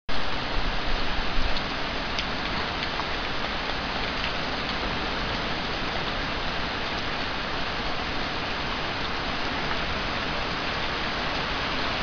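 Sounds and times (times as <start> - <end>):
raindrops ticking close by: 0.1 - 12.0
steady rain hiss: 0.1 - 12.0.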